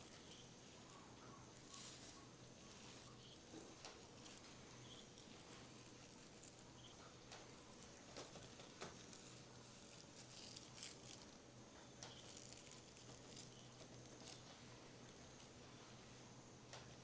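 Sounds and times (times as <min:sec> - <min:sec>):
dried stems rustling: 0:00.0 - 0:17.0.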